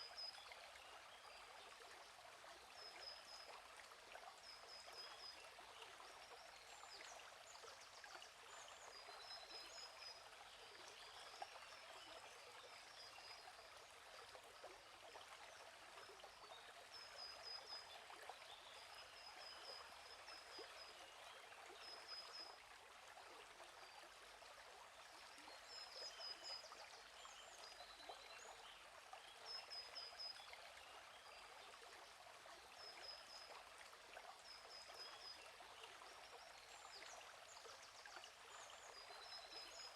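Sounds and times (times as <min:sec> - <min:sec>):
faint flowing stream: 0:00.0 - 0:39.9.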